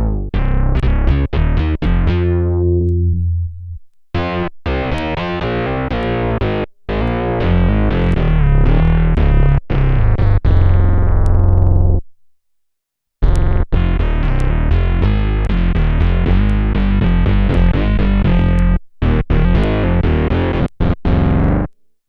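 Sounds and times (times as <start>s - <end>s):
buzzy synth bass notes: 0.0s - 12.0s, 13.2s - 21.7s.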